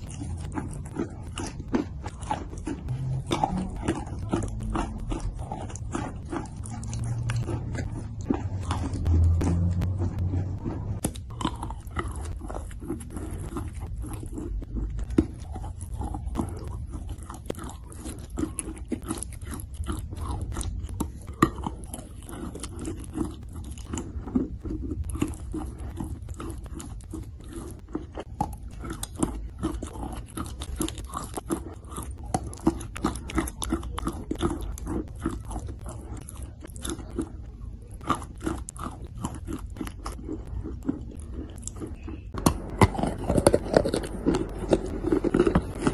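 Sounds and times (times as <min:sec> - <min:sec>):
chewing chalk crunching: 0:00.0 - 0:45.9.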